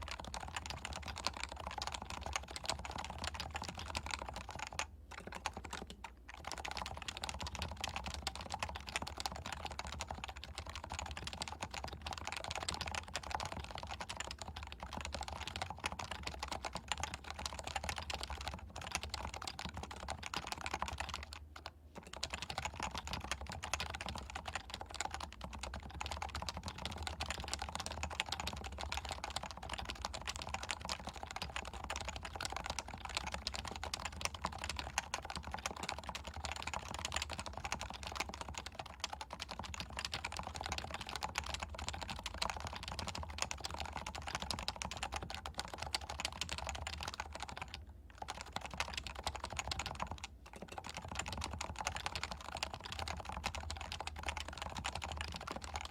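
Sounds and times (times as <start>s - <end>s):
fast typing on a keyboard: 0.0s - 55.9s.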